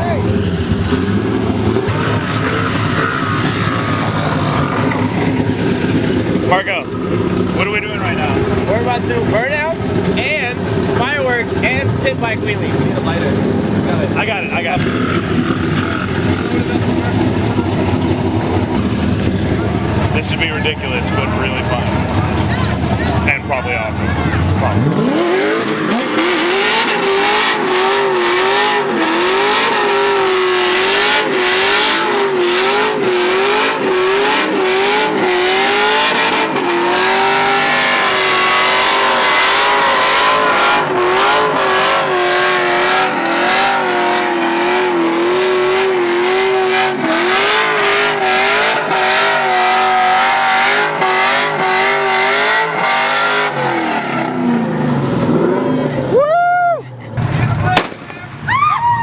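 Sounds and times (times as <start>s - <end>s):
car engine revving high: 0.0s - 58.5s.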